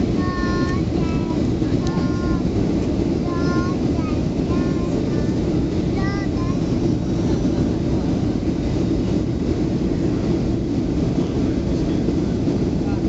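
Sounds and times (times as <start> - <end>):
aircraft cabin engine roar: 0.0 - 13.0.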